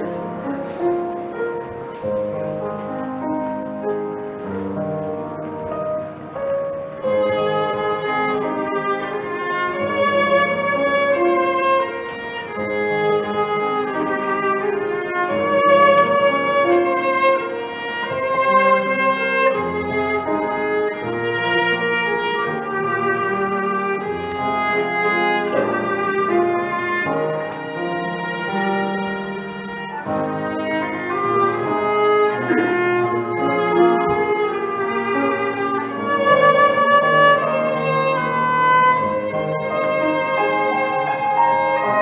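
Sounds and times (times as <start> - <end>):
piano accompaniment: 0.0 - 42.0
violin playing slow hymn melody: 0.0 - 42.0.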